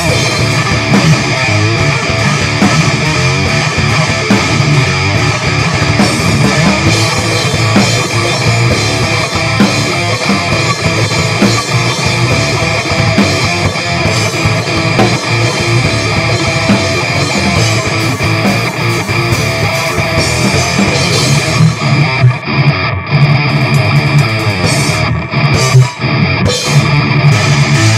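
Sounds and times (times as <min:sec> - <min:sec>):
instrumental rock guitar and drums: 0:00.0 - 0:27.9.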